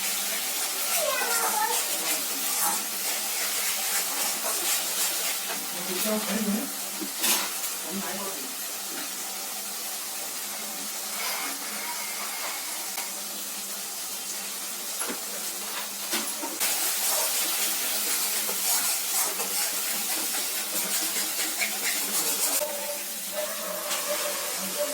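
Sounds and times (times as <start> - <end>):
food sizzling in hot oil: 0.0 - 24.9.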